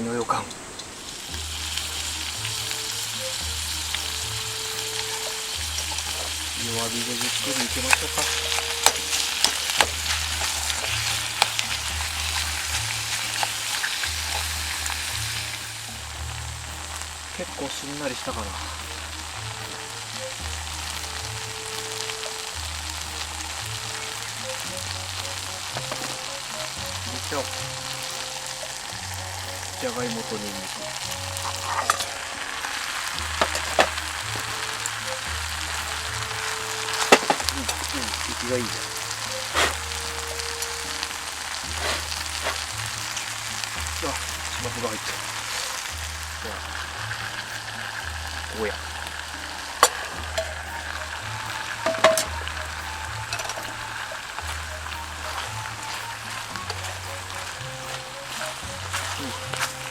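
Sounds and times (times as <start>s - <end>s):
onions sizzling in a pot: 0.0s - 59.9s.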